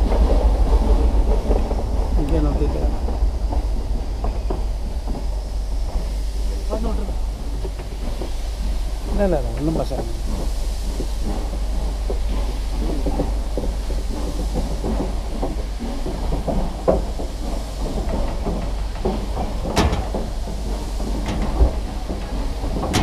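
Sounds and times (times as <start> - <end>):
train wheels clattering on rails: 0.0 - 23.0.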